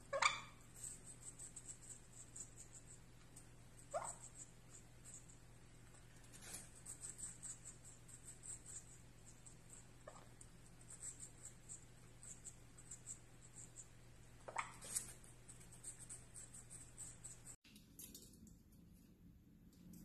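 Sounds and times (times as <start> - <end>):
parrot beak clicking and scratching: 0.1 - 18.6.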